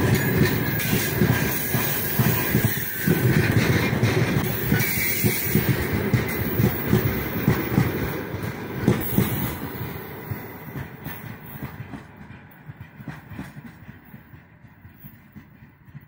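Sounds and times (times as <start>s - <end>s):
train wheels rumbling and clacking: 0.0s - 16.0s.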